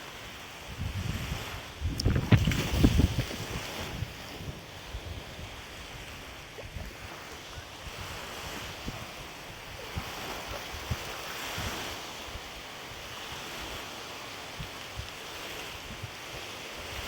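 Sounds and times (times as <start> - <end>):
small waves washing on shore: 0.0 - 17.0
wind: 0.0 - 17.0
wind buffeting microphone: 0.3 - 17.0.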